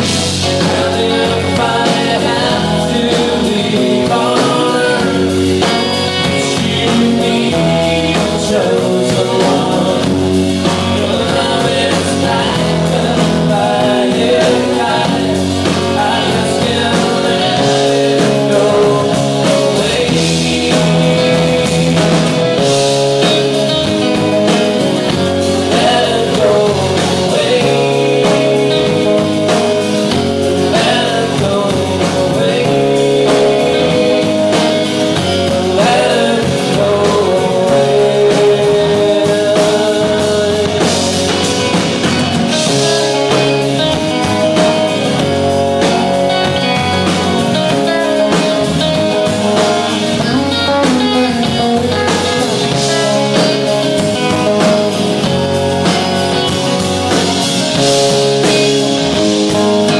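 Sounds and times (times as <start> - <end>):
live rock band playing: 0.0 - 59.9
man singing: 0.0 - 59.9.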